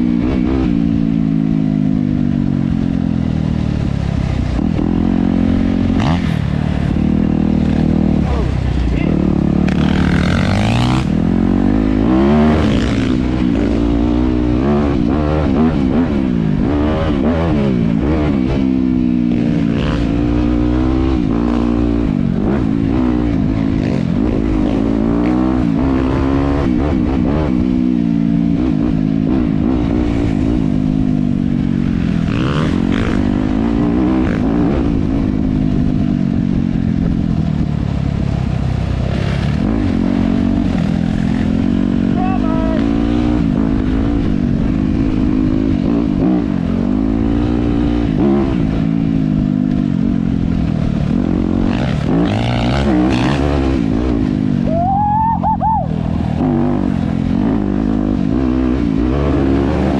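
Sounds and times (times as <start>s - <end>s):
dirt bike engine revving: 3.8s - 37.7s, 38.9s - 59.9s.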